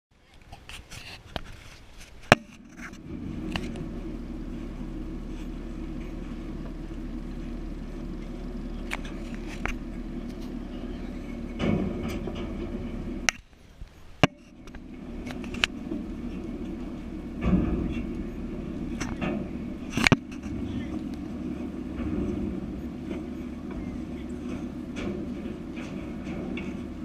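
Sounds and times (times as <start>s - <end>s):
engine running with low hum: 0.2s - 27.0s
sharp clicks and knocks: 0.4s - 27.0s.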